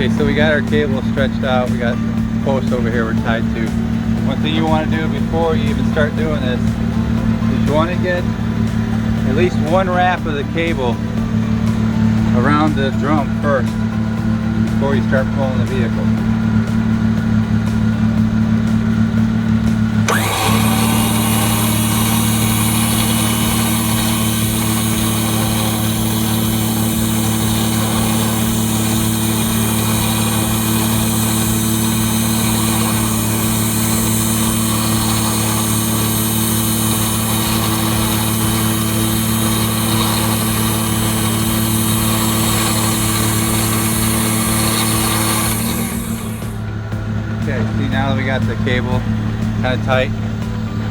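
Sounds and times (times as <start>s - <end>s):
electric winch whining: 0.0s - 50.9s.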